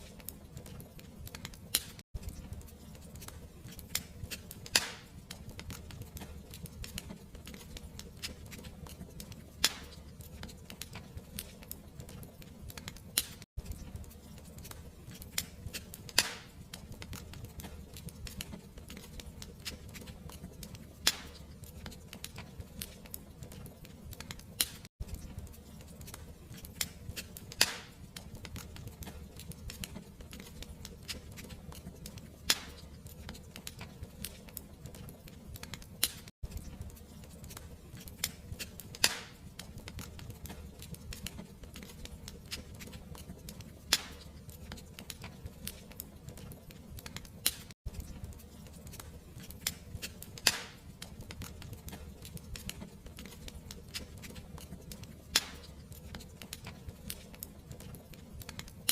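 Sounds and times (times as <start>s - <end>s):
fire popping: 0.0s - 58.9s
wood fire crackling: 0.0s - 58.9s.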